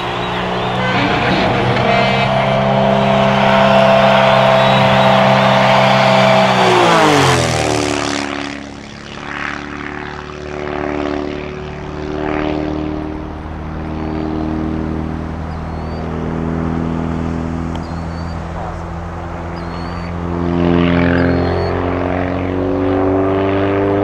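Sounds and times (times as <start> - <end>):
propeller plane engine: 0.0 - 24.0.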